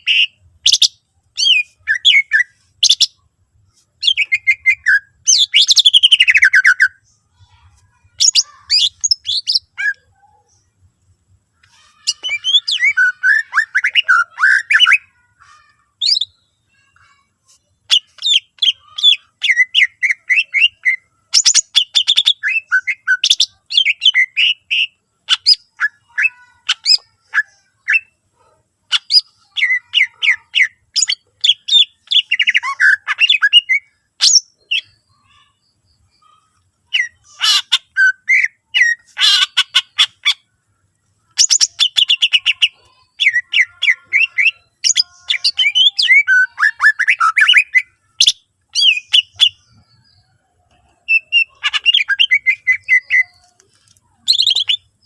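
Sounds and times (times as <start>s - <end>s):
leafbird singing: 0.0s - 10.8s, 11.4s - 40.6s, 41.2s - 55.0s.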